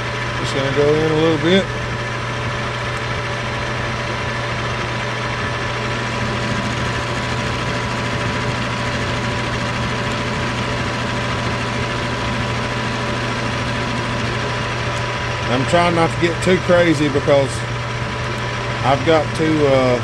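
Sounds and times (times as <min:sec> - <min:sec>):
metal lathe turning steel: 0:00.1 - 0:20.0.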